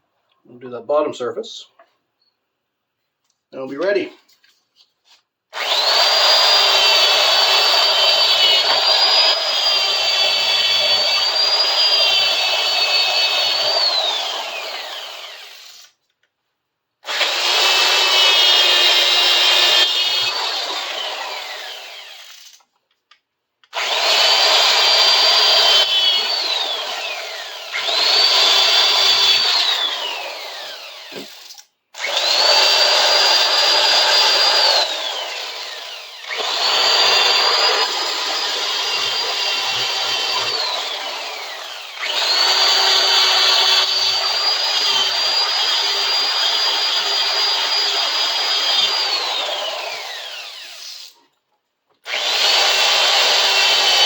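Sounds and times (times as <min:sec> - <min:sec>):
power tool whining and grinding: 0:05.6 - 0:16.0, 0:17.1 - 0:22.6, 0:23.6 - 0:51.2, 0:52.0 - 0:54.0.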